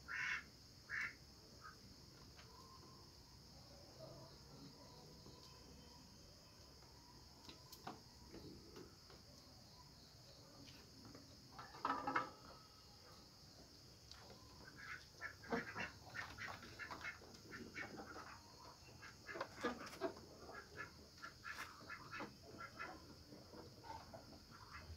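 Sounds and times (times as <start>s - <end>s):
crickets trilling: 0.0s - 24.9s.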